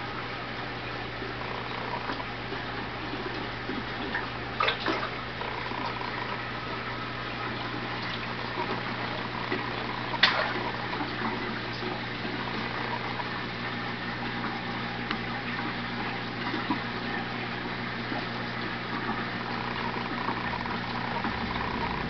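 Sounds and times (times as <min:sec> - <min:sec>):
aquarium water pump humming: 0:00.0 - 0:22.0
circulating water rushing: 0:00.0 - 0:22.0.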